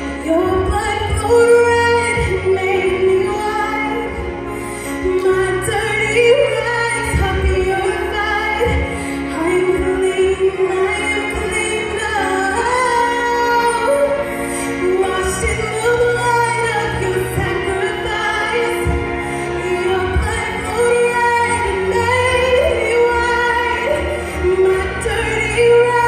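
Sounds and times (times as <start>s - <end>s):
instrumental accompaniment: 0.0s - 26.0s
woman singing into microphone: 0.0s - 26.0s.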